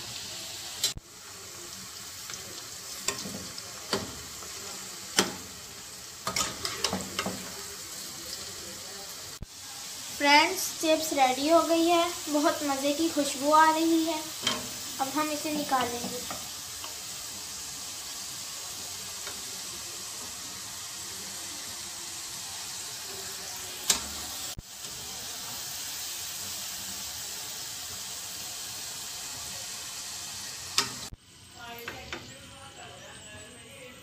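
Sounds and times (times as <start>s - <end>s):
chips sizzling in hot oil: 0.0s - 33.7s.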